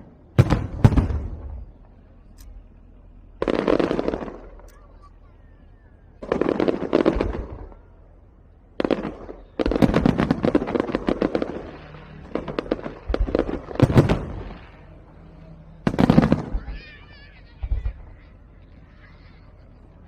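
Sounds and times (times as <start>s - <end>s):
fireworks crackling bangs: 0.0s - 19.9s.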